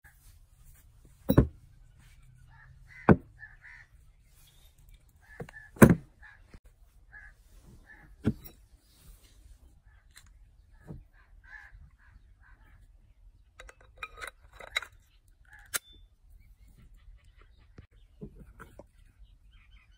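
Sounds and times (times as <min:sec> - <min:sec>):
faint bird calls: 0:01.8 - 0:13.5, 0:15.4 - 0:19.9.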